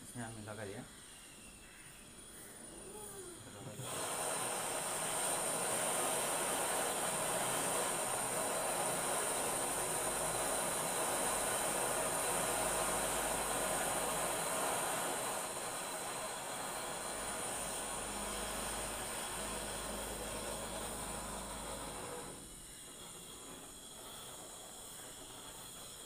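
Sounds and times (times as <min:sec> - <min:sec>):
gas torch hissing: 0:00.0 - 0:26.0.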